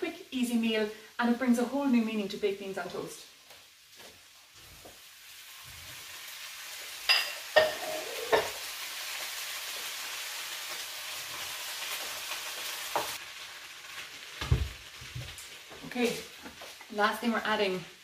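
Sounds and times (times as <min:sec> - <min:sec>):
beans sizzling in a frying pan: 0:00.0 - 0:18.0.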